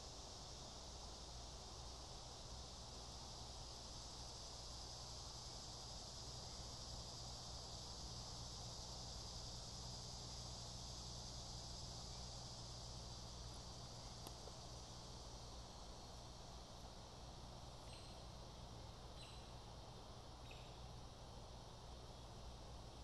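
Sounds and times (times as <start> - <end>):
insects chorus: 0.0 - 23.0
low steady hum: 0.0 - 23.0.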